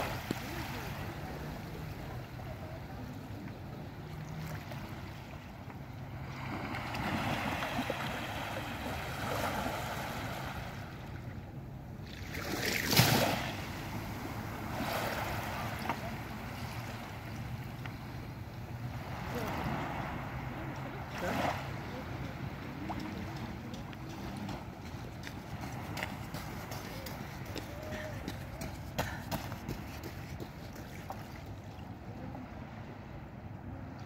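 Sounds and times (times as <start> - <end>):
small waves breaking on beach: 0.0 - 11.3, 12.0 - 34.0.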